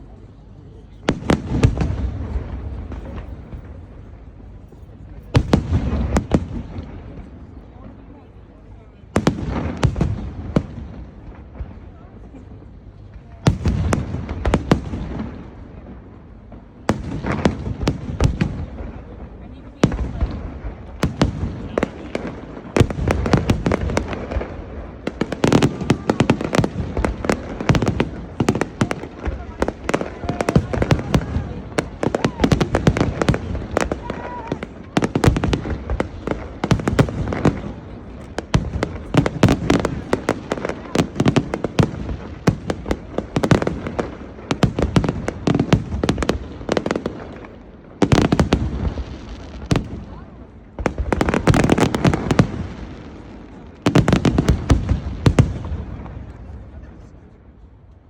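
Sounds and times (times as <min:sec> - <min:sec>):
fireworks bangs: 0:01.0 - 0:04.7, 0:05.3 - 0:08.1, 0:09.1 - 0:57.4.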